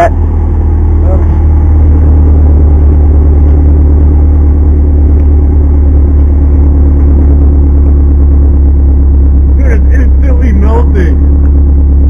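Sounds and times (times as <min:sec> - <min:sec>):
car exhaust throbbing: 0:00.0 - 0:12.0.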